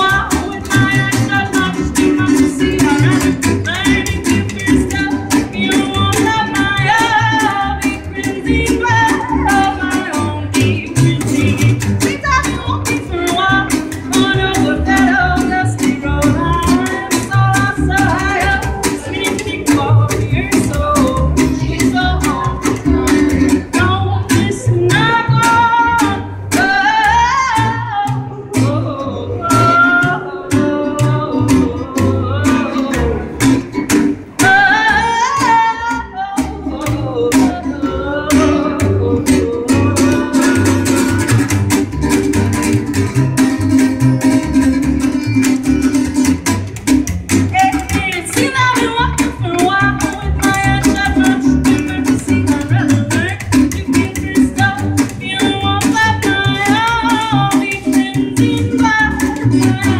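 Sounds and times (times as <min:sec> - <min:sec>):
woman singing: 0:00.0 - 0:33.6, 0:34.4 - 0:41.6, 0:47.4 - 0:59.9
acoustic guitar strummed: 0:00.0 - 0:59.9
double bass plucked: 0:00.0 - 0:59.9.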